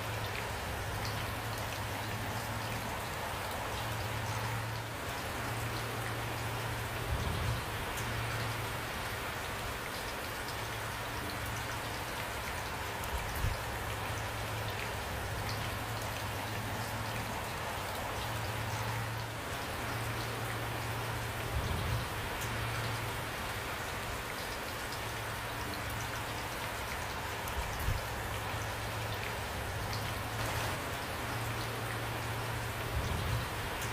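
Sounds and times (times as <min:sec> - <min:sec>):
raindrops tapping: 0:00.0 - 0:33.9.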